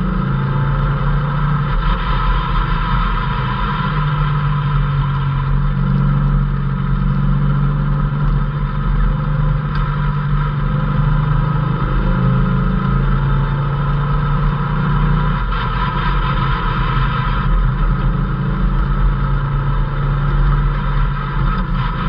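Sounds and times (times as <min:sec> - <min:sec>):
road and wind noise: 0:00.0 - 0:22.0
vehicle engine running: 0:00.0 - 0:22.0.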